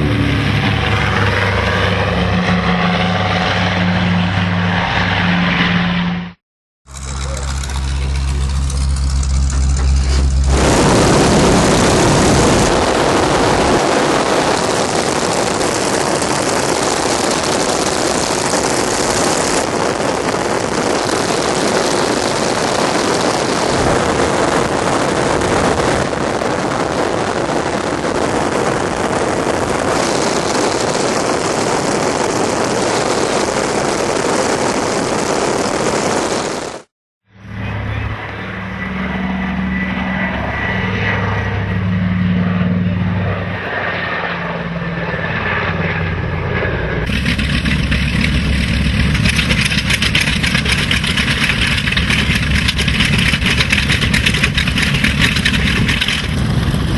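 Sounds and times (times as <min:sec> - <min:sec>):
propeller aircraft engine running: 0:00.0 - 0:56.9.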